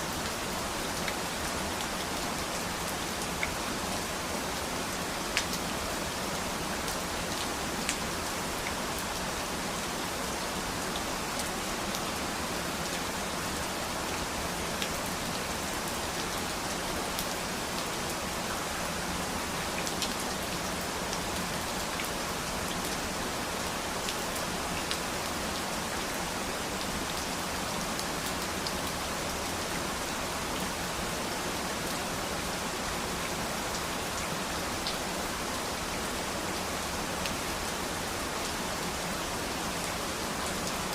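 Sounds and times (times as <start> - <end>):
rain pattering on surfaces: 0.1 - 40.9.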